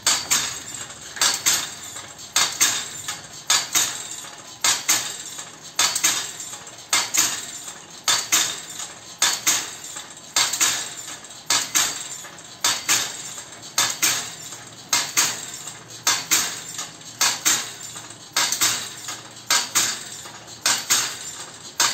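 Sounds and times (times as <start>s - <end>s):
metal parts clanking: 0.0s - 21.9s.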